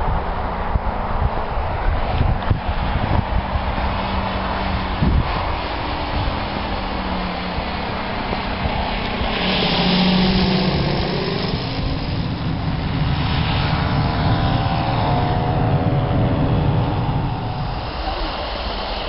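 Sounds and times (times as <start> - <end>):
model airplane engine droning: 0.3 - 19.0.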